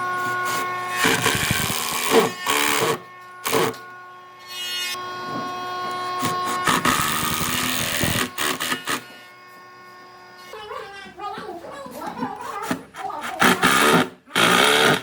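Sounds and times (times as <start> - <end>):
electric power tool whining: 0.0 - 11.4, 13.4 - 15.0.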